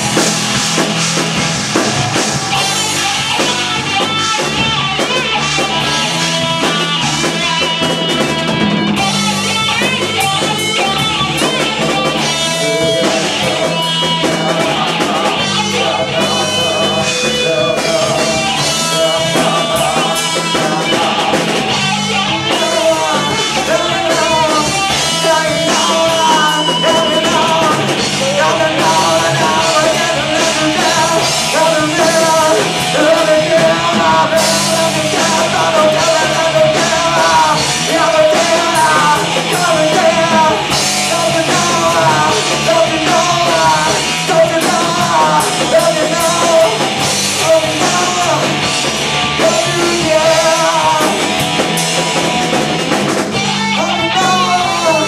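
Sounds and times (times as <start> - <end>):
rock song with vocals: 0.0 - 55.0.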